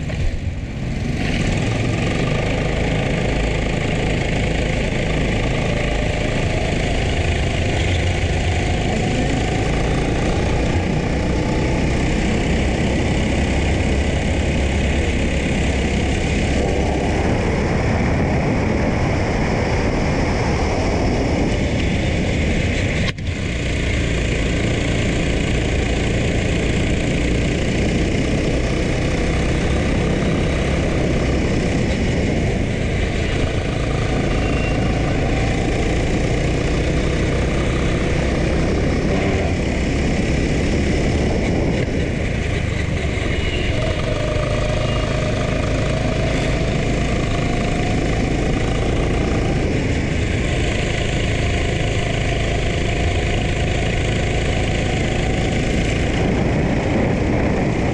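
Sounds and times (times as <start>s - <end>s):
racing kart engine droning: 0.0s - 57.9s.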